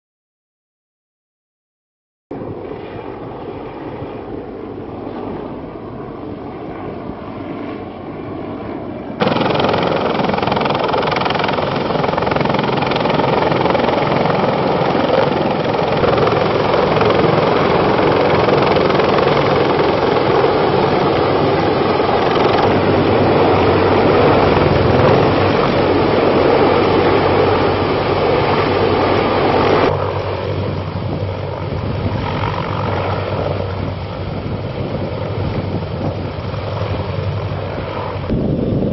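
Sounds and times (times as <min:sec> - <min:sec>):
helicopter rotor and turbine noise: 0:02.3 - 0:38.9.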